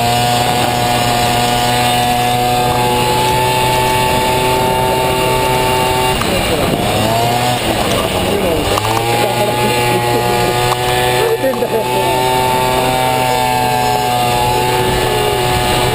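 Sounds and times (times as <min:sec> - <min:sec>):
scooter engine revving high: 0:00.0 - 0:15.9.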